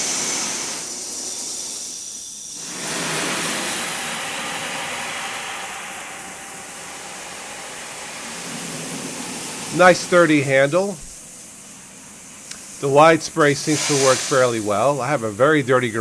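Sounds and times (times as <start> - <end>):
power washer spraying water: 0.0 - 16.0.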